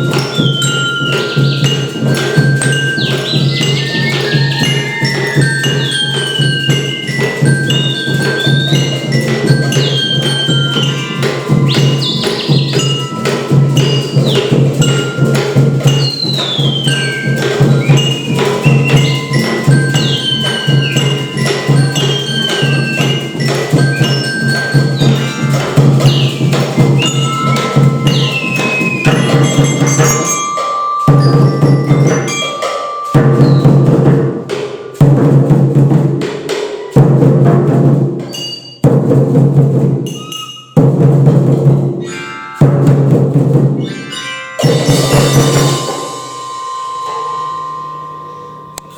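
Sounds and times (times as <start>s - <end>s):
percussion ensemble playing: 0.0s - 48.9s
wood-block and bell strikes: 0.0s - 48.9s.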